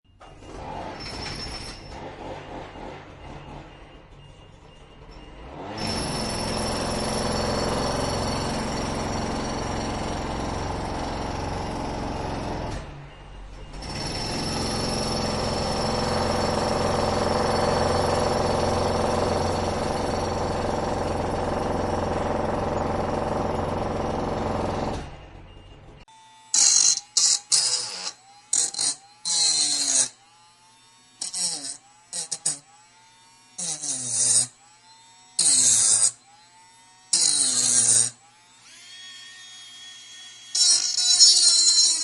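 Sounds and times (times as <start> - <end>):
machine running with whining tones: 0.2 - 5.8, 10.6 - 33.7, 34.5 - 42.0.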